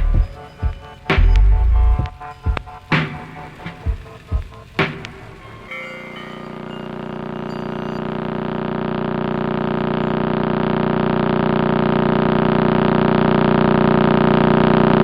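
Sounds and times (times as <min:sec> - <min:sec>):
electronic drone: 0:00.0 - 0:15.0.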